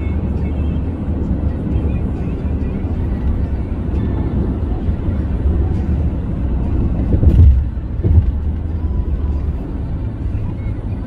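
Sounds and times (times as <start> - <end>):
vehicle rumble: 0.0 - 11.0.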